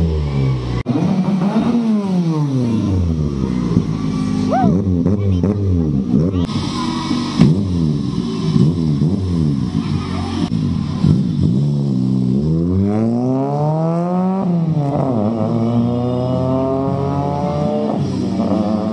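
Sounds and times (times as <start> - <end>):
car engine revving and accelerating: 0.0 - 18.9.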